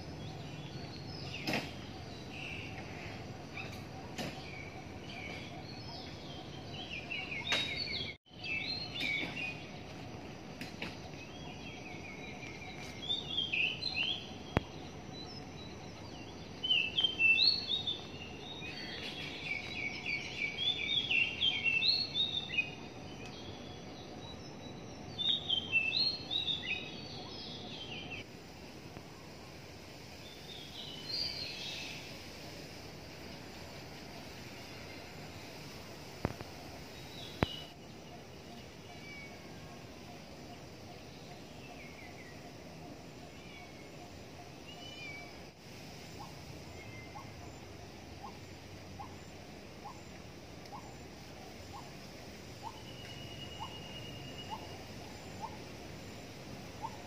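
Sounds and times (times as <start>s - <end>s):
birds singing high chirps: 0.0s - 28.3s, 30.2s - 57.0s.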